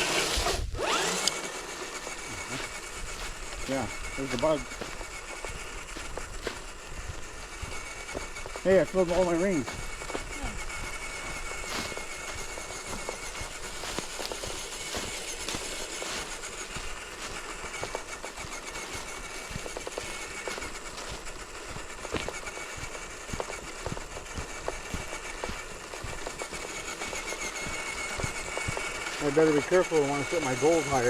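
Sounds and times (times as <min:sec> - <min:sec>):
toy truck motor whine: 0:00.0 - 0:31.0.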